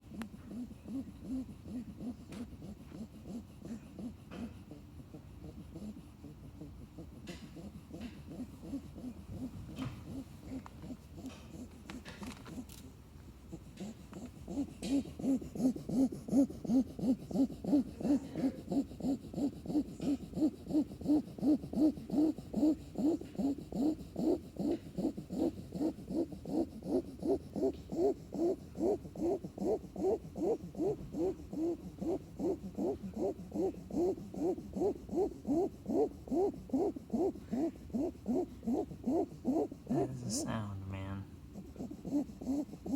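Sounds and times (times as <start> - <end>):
puppy snoring: 0.0 - 42.9.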